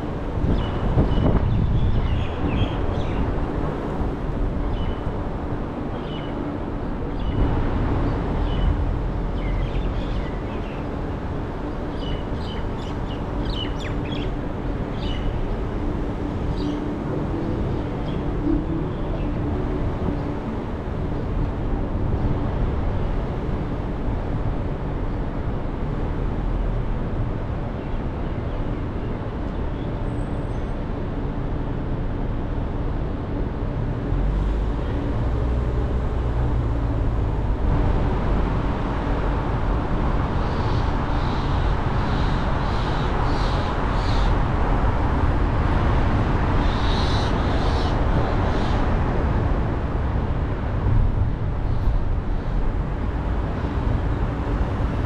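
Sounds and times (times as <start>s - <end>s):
car road noise: 0.0s - 55.0s.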